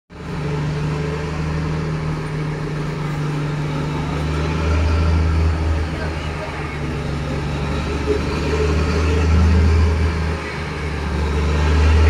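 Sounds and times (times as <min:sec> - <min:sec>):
diesel generator droning: 0:00.1 - 0:12.0.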